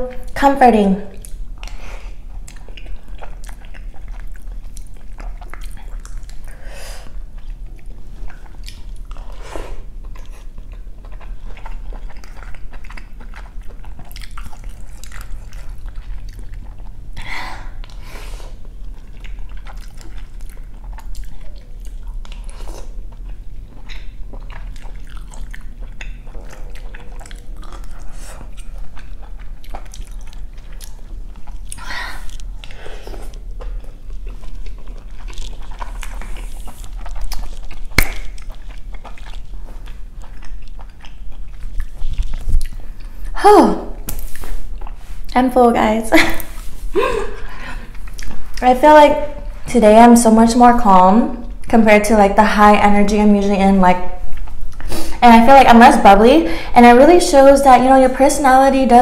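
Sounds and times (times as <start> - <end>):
wet mouth sounds: 0.0 - 50.0
chewing and biting: 1.1 - 45.4, 46.2 - 48.6, 54.2 - 55.0.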